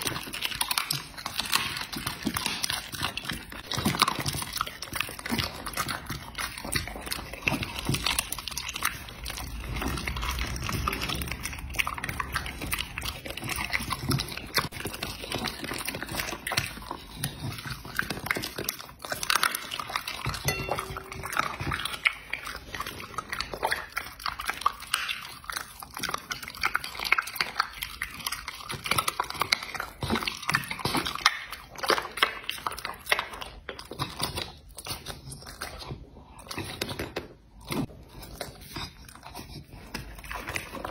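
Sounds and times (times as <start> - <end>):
dog chewing meat: 0.0 - 40.9.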